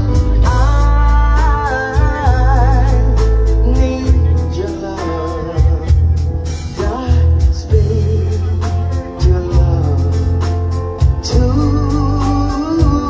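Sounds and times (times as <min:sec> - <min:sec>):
heavy bass: 0:00.0 - 0:13.0
person singing with vibrato: 0:00.0 - 0:13.0
steady drum beat: 0:00.0 - 0:13.0.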